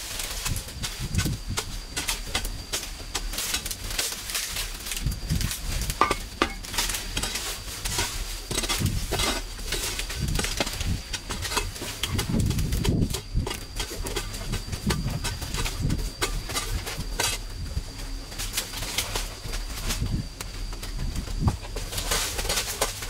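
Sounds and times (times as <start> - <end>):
knocks scrapes and rustles: 0.0 - 23.0.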